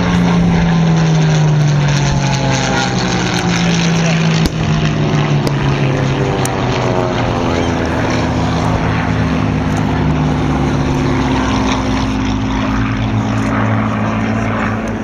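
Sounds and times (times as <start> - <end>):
propeller aircraft engine droning: 0.0 - 15.0.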